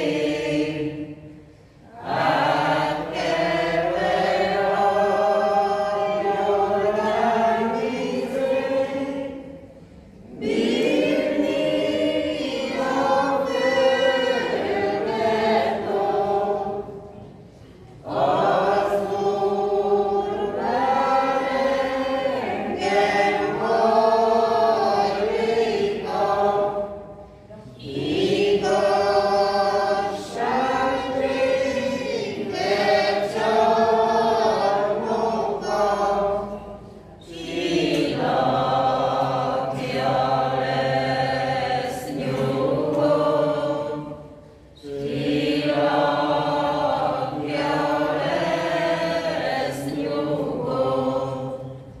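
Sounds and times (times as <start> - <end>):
choir singing a hymn: 0.0 - 52.0.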